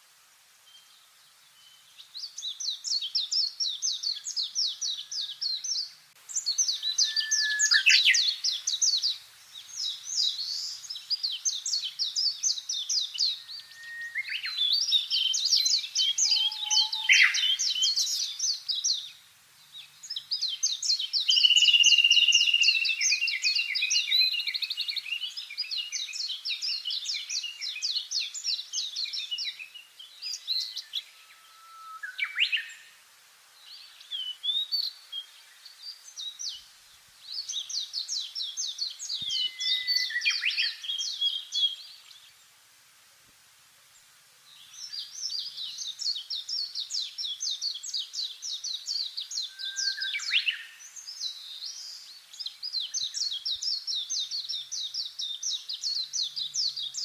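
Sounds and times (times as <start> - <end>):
songbirds singing trills: 0.6 - 42.6, 44.0 - 57.0.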